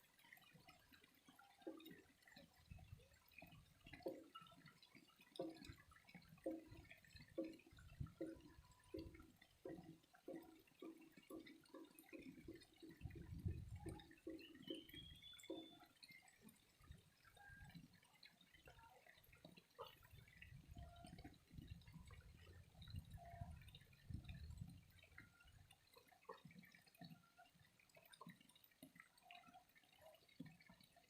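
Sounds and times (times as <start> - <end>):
low rumble of flowing water: 0.0 - 31.0
water dripping: 0.0 - 31.0.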